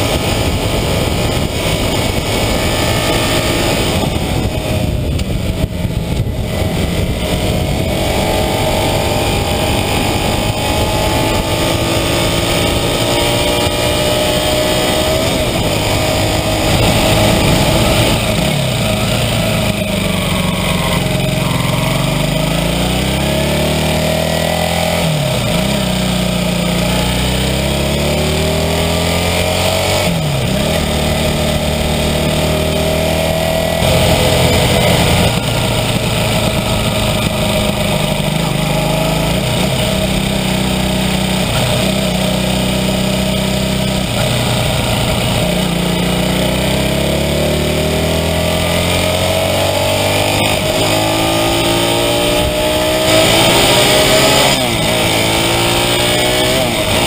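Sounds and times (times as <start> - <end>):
wind noise: 0.0 - 46.0, 48.1 - 57.0
motorcycle engine running: 0.0 - 57.0
road noise: 0.0 - 57.0.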